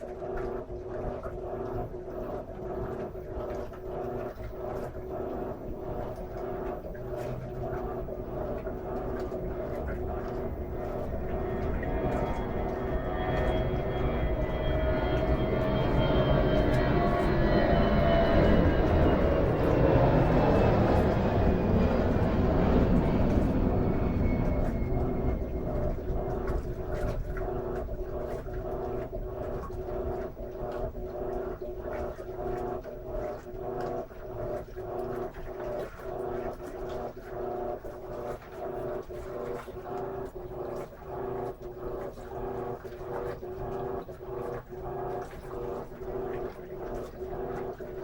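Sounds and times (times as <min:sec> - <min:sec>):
washing machine agitator humming: 0:00.0 - 0:48.0
washing machine rushing water: 0:00.0 - 0:48.0.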